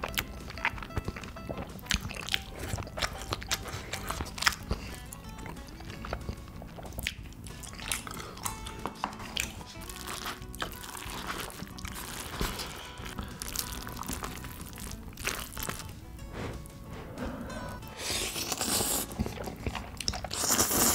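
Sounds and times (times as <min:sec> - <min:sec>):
background music: 0:00.0 - 0:20.9
wet sticky noodle squelches: 0:00.0 - 0:20.9.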